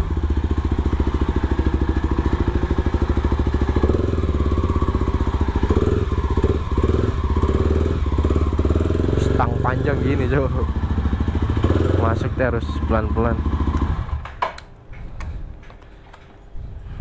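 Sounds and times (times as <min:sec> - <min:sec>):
motorcycle engine at low revs: 0:00.0 - 0:14.6.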